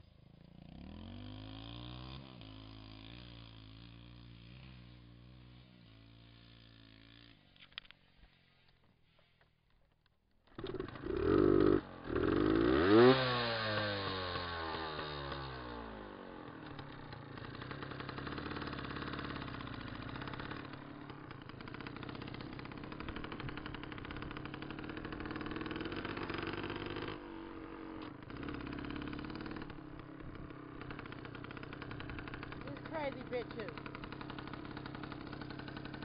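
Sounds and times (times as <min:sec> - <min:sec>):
dirt bike engine revving and idling: 0:00.0 - 0:09.3, 0:10.4 - 0:36.0.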